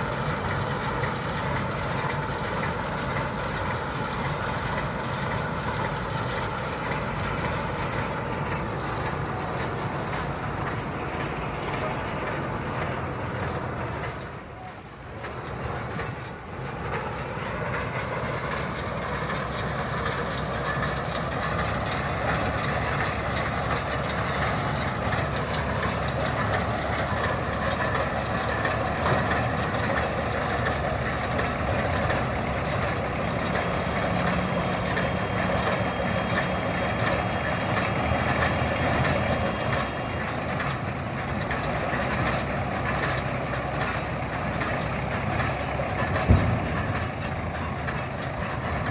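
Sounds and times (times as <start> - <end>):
tractor engine under load: 0.0 - 48.9.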